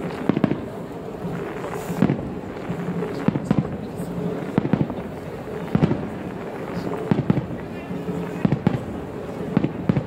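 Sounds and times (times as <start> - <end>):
fireworks booming overhead: 0.0 - 10.0.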